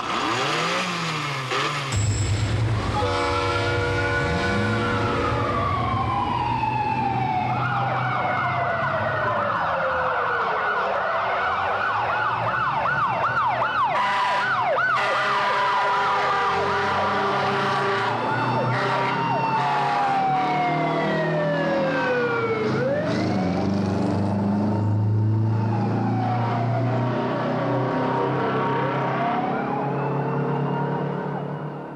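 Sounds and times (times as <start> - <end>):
wailing sirens: 2.3 - 31.9
fast yelping siren: 2.8 - 23.7, 24.8 - 27.5, 28.2 - 31.9.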